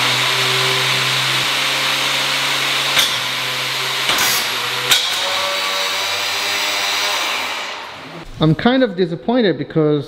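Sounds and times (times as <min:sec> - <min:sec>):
angle grinder whining: 0:00.0 - 0:08.2.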